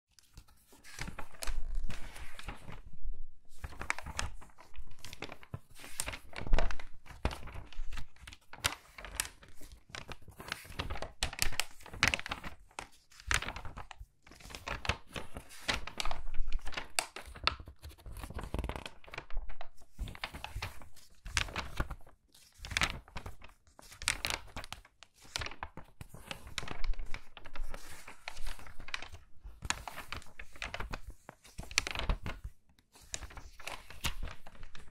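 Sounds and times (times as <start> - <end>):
magazine pages turning: 0.1 - 34.9.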